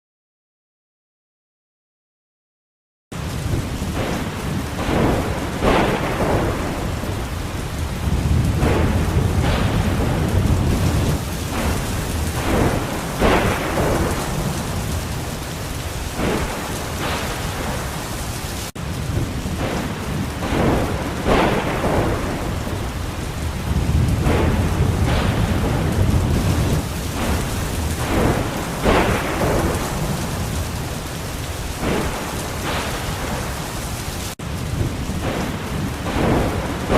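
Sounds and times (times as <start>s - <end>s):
heavy rain: 3.1s - 36.9s
deep rolling thunder: 3.2s - 36.9s.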